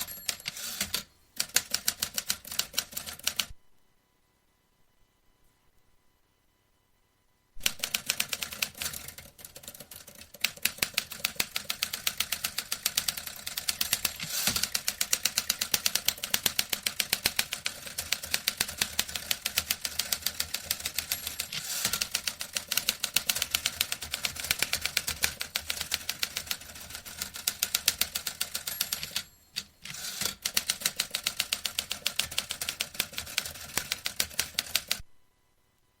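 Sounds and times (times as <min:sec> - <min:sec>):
manual typewriter typing: 0:00.0 - 0:03.5, 0:07.6 - 0:35.0.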